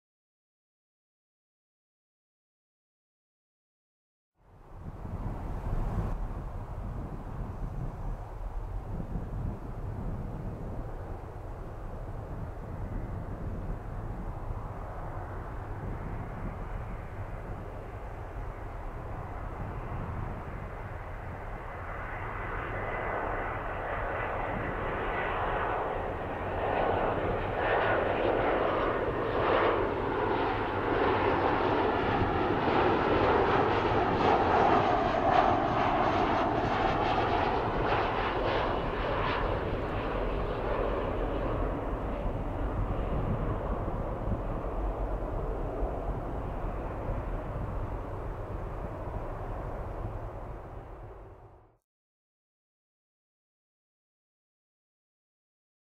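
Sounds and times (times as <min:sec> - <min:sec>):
jet engines passing by: 0:04.4 - 0:51.8.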